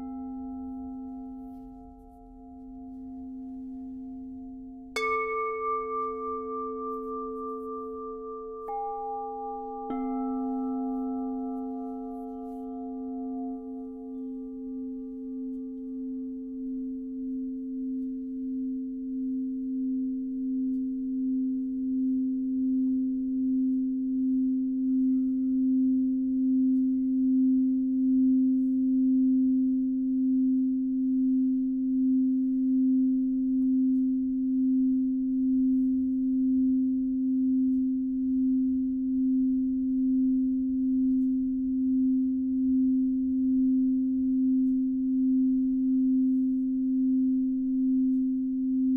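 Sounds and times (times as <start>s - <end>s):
singing bowl tone: 0.0s - 48.9s.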